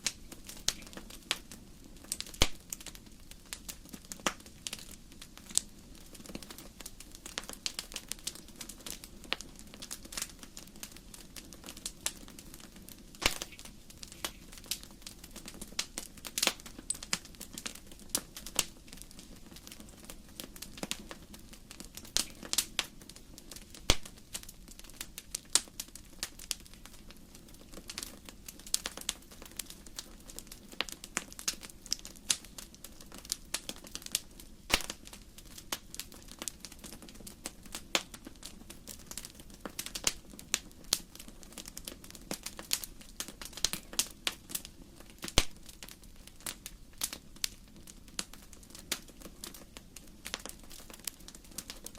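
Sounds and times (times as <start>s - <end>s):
burning logs popping and snapping: 0.0s - 51.9s
low rumble of flames: 0.0s - 51.9s.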